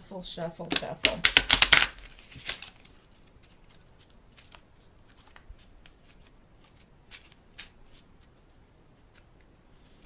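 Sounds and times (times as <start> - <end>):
playing cards being shuffled: 0.7 - 9.6.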